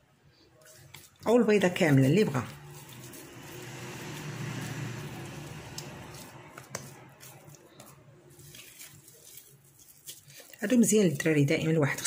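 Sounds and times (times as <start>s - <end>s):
wet squishing of dough: 0.3s - 12.0s.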